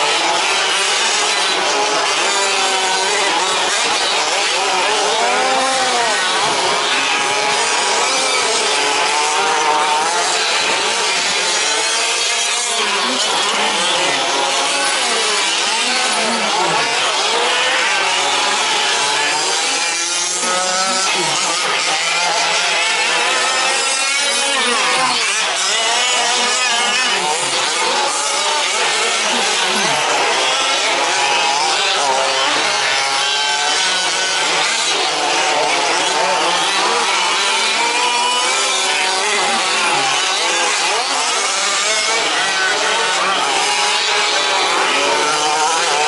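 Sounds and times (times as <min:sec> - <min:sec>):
remote-control truck engines buzzing: 0:00.0 - 0:46.0.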